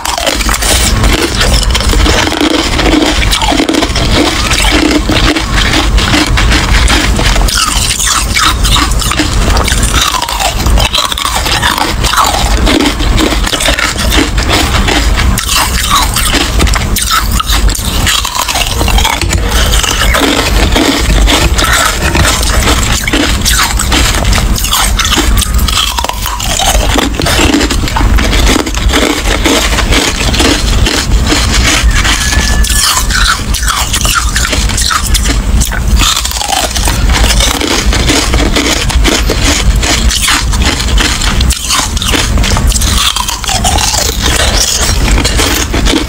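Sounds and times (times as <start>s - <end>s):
ice crunching being chewed: 0.0s - 46.0s.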